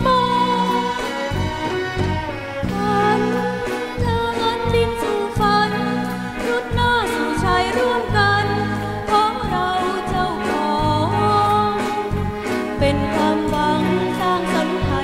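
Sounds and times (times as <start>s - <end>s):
bass and instrumental accompaniment: 0.0s - 15.0s
person singing a song: 0.0s - 15.0s.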